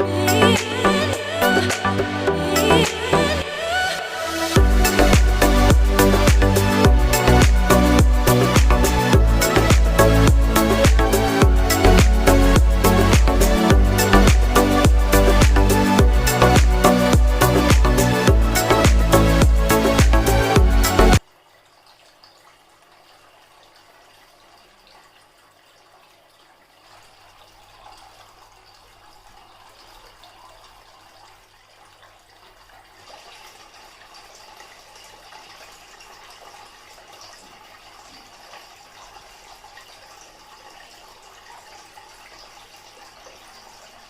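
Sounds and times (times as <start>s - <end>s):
fountain water trickling and splashing: 0.1s - 44.0s.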